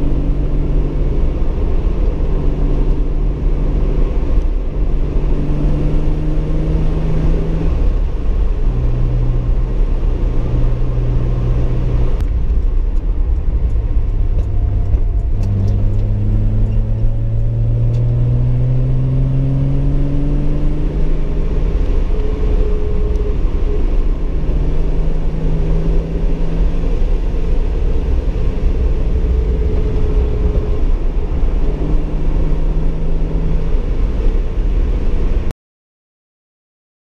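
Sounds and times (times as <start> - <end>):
car engine while driving: 0.0 - 35.5
low rumble: 0.0 - 35.5.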